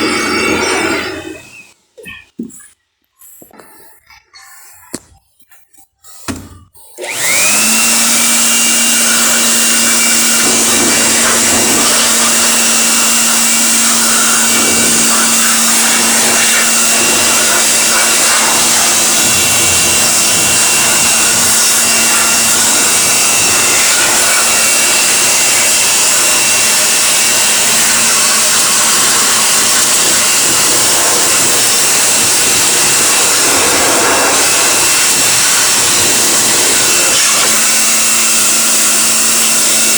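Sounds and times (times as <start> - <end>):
electric air blower whining: 0.0 - 1.8, 6.2 - 39.9.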